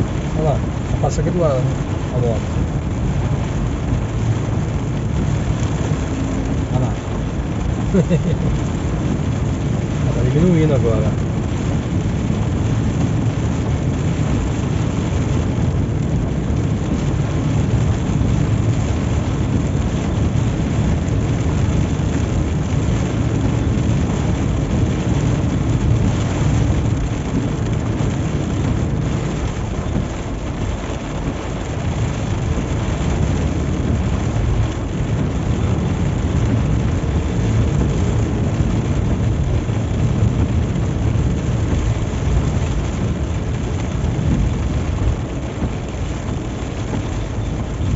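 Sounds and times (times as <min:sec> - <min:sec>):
heavy rain: 0:00.0 - 0:47.9
vehicle engine rumble on highway: 0:00.0 - 0:47.9.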